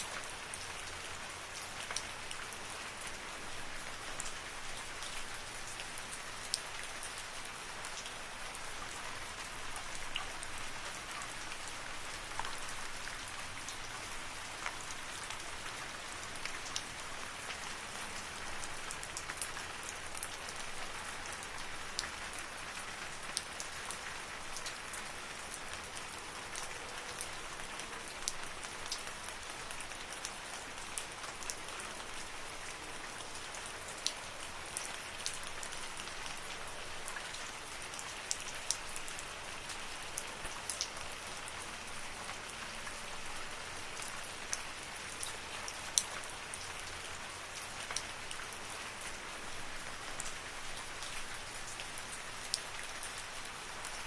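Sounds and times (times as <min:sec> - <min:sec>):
raindrops ticking close by: 0:00.0 - 0:54.0
steady rain hiss: 0:00.0 - 0:54.0.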